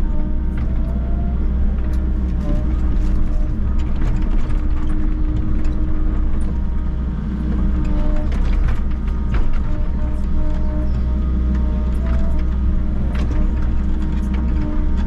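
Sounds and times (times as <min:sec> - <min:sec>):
excavator diesel engine running: 0:00.0 - 0:15.0
machine clanks and rattles: 0:00.0 - 0:15.0.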